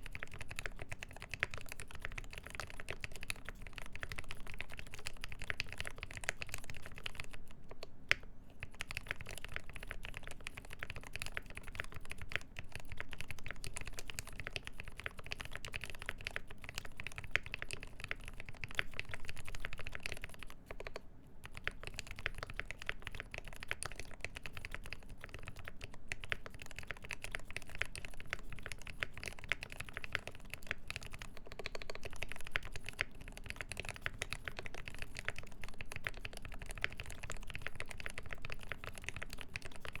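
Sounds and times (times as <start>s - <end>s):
typing on a mechanical keyboard: 0.0s - 40.0s.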